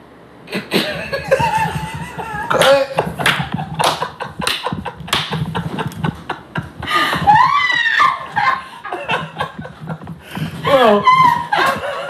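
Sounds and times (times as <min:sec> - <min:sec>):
person laughing hard: 0:00.6 - 0:12.0.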